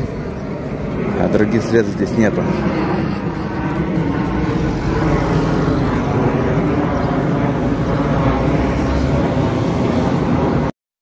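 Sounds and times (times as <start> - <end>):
road traffic rumble: 0.0 - 10.7.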